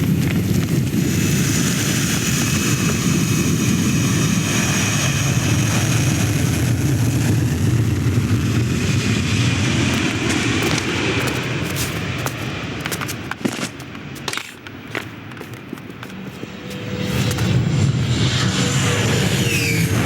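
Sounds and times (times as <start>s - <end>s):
jet engines roaring with whine: 0.0s - 20.0s.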